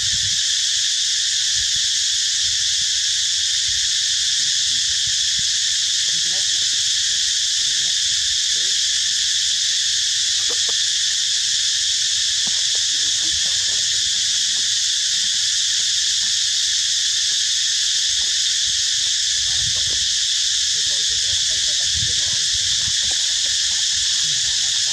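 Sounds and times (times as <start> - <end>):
insect chorus drone: 0.0 - 24.9.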